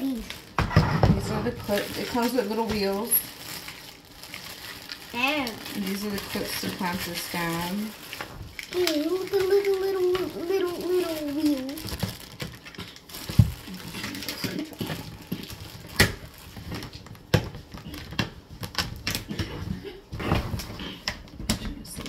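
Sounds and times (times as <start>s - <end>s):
plastic bag rustling: 0.0s - 21.0s.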